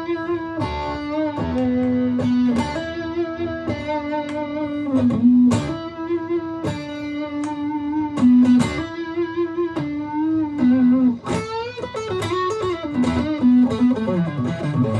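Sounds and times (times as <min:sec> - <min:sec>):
electric guitar lead line: 0:00.0 - 0:14.9.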